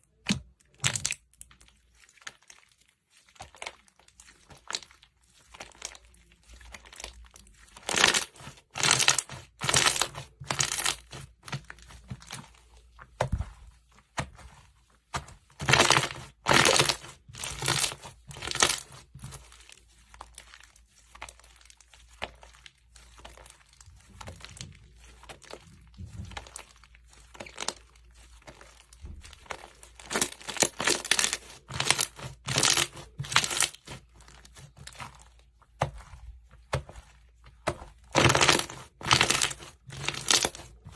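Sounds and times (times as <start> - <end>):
slime squelching and popping: 0.0 - 40.9.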